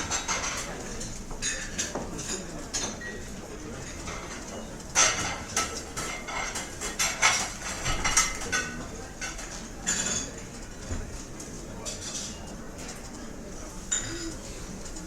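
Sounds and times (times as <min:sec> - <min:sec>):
cutlery clinking on plates: 0:00.0 - 0:13.2, 0:13.9 - 0:15.0
low background murmur: 0:00.0 - 0:15.0.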